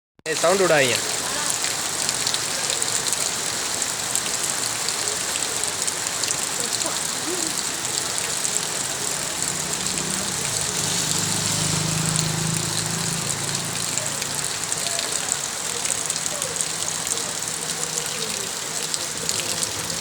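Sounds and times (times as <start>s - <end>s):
steady rain patter: 0.3s - 20.0s.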